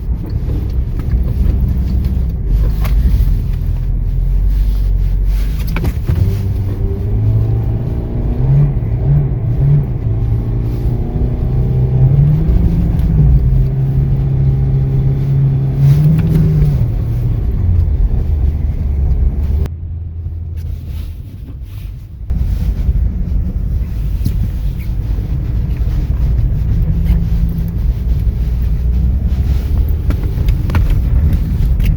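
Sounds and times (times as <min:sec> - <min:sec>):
car engine accelerating: 0:00.0 - 0:31.9
tyres rumbling on road: 0:00.0 - 0:31.9.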